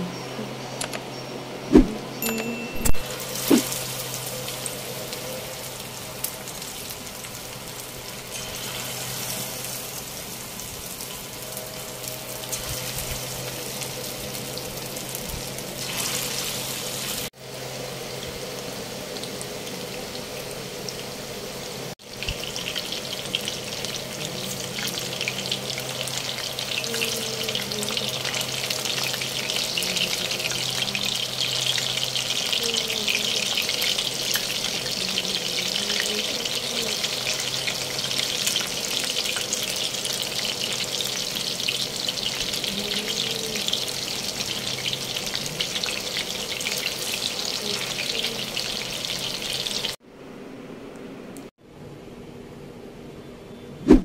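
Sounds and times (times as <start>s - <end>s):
chicken frying in hot oil: 3.0s - 50.0s.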